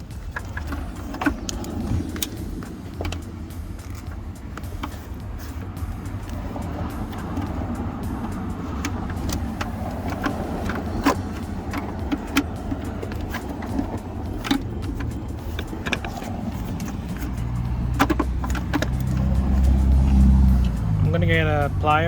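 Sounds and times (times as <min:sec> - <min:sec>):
wiring and plastic clips clicking: 0:00.0 - 0:22.0.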